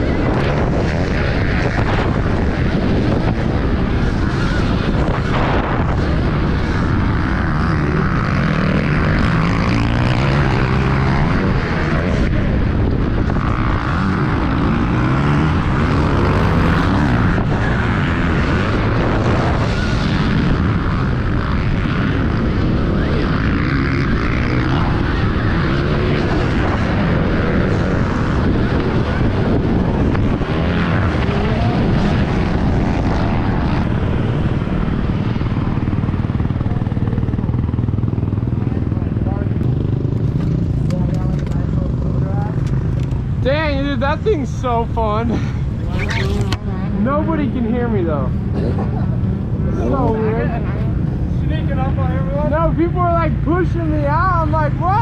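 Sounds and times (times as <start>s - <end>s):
dirt bike engine revving: 0.0s - 55.0s
wind rushing over microphone: 0.0s - 55.0s.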